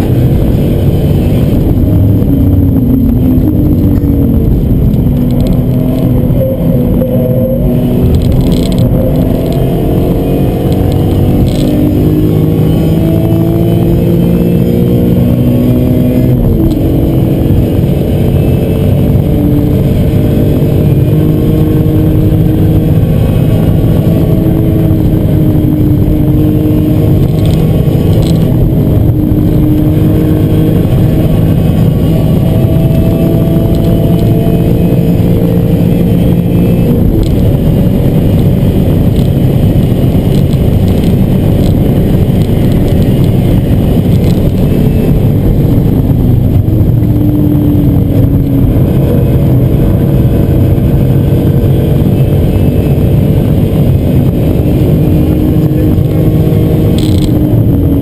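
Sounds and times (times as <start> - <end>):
car engine running hard: 0.0 - 58.0
wind and road noise: 0.0 - 58.0.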